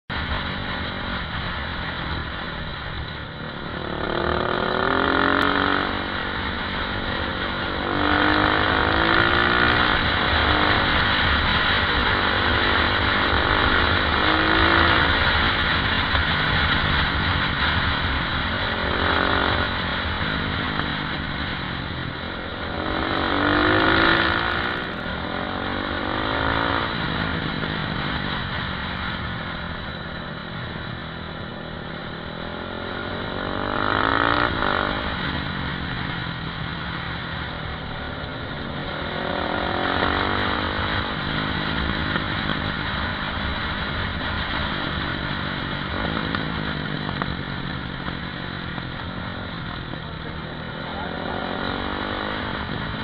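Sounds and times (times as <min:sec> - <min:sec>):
motorcycle engine revving: 0:00.1 - 0:53.0.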